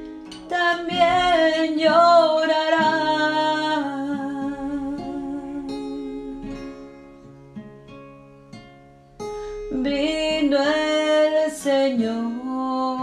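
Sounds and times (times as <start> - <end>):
plucked notes: 0.0 - 10.9.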